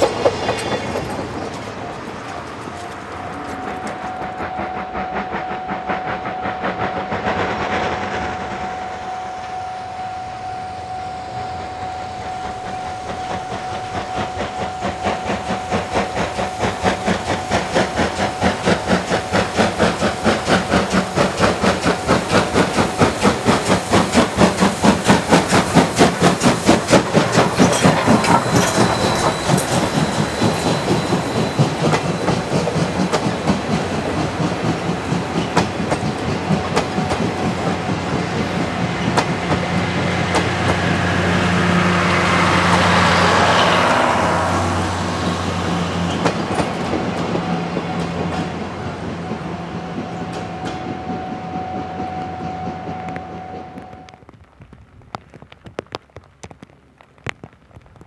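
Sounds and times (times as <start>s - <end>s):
steam locomotive passing: 0.0s - 54.4s.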